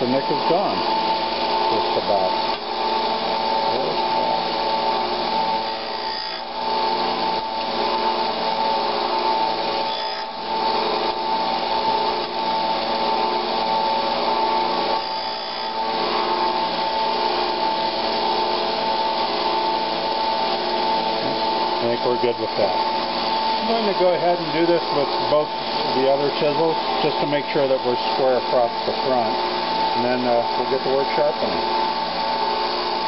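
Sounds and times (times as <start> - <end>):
disc sander grinding steel: 0.0 - 33.0.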